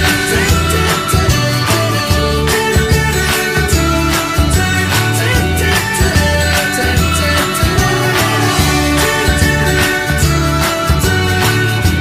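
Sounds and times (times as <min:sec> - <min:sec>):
background music with bass: 0:00.0 - 0:12.0.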